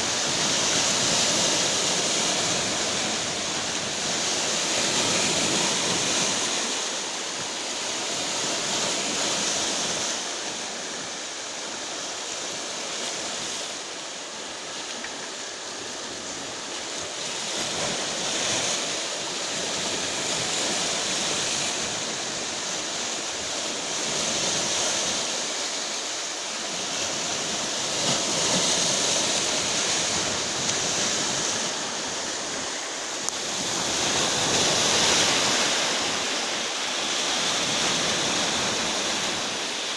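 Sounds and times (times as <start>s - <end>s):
rough surf breaking waves: 0.0s - 39.9s.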